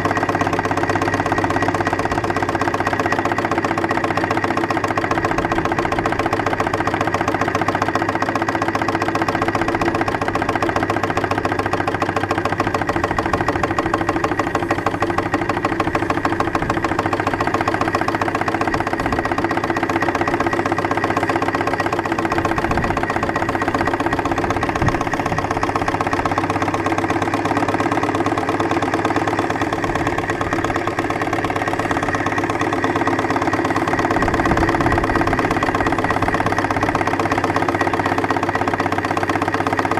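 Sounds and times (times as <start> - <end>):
steam engine exhaust beats: 0.0 - 39.9.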